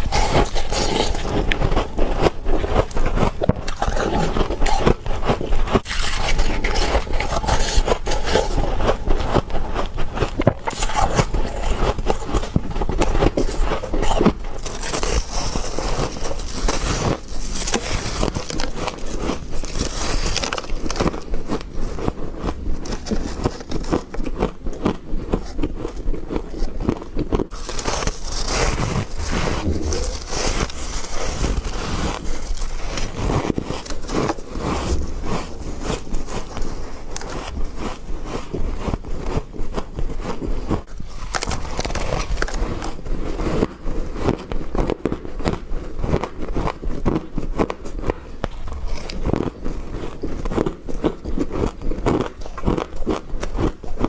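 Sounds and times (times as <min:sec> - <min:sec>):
teeth crunching frost: 0:00.0 - 0:54.0.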